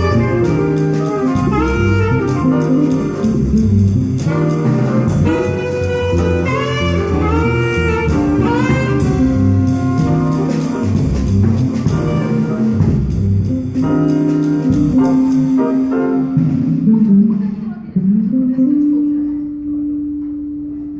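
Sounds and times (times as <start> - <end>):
horn melody: 0.0 - 17.3
drum kit with cymbal strokes: 0.0 - 17.6
bass notes: 0.0 - 20.9.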